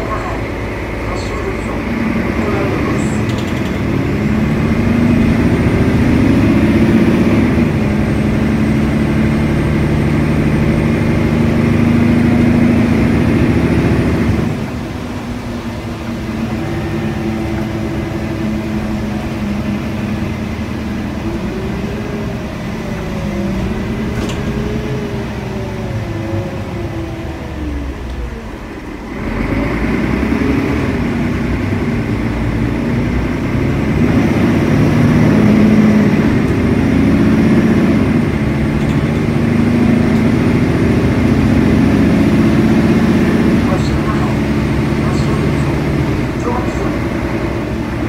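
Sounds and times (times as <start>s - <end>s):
bus diesel engine accelerating: 0.0s - 48.0s.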